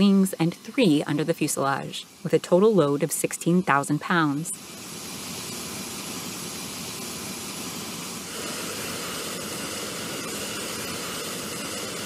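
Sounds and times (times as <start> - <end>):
jet engine noise: 0.0 - 12.0.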